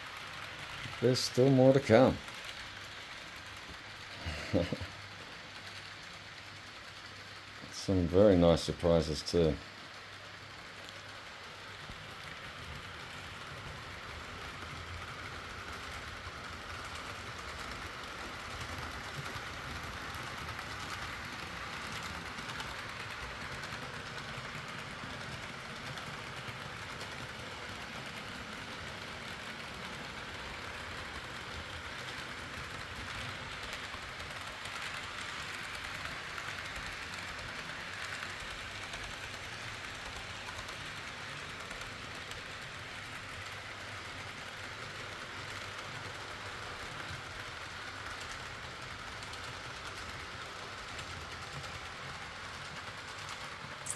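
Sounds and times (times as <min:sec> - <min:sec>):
model train running on track: 0:00.0 - 0:53.9.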